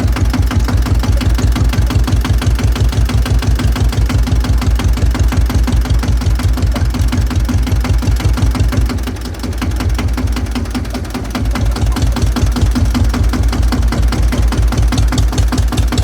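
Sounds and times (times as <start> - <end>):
tractor diesel engine chugging: 0.0 - 16.0.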